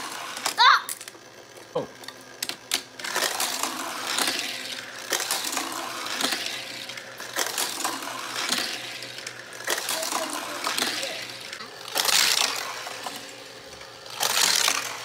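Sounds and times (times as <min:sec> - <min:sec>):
toy cars rattling on plastic track: 0:00.0 - 0:15.0.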